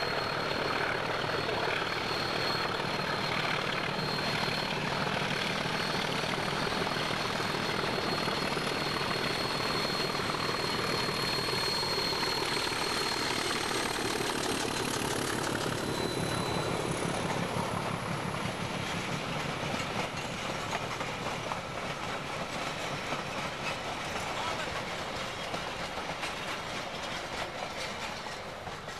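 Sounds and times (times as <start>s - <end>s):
diesel locomotive engine working hard: 0.0s - 28.9s
train wheels clicking over rail joints: 0.2s - 28.9s.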